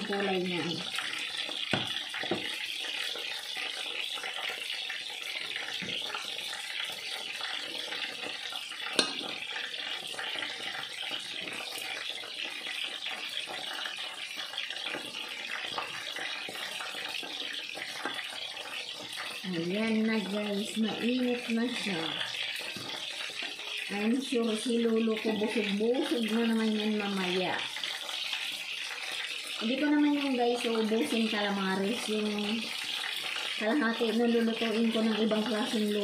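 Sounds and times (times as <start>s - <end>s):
hot oil sizzling: 0.0s - 36.0s.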